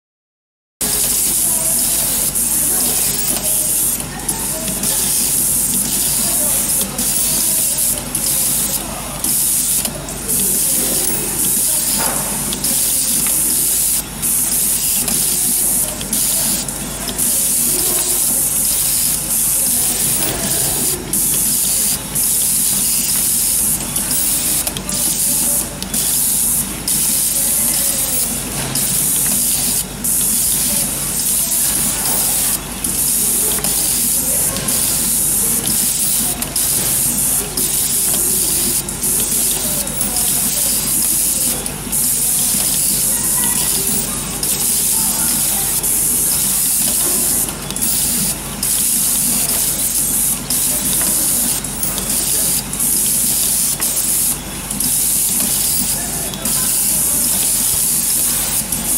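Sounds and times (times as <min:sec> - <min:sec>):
wire stripping machine hissing: 0:00.8 - 0:58.9.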